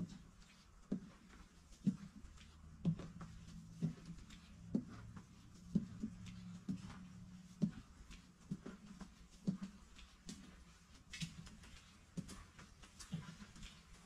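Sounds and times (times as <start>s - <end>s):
low steady hum: 0.0s - 14.0s
soft footsteps: 0.0s - 14.0s.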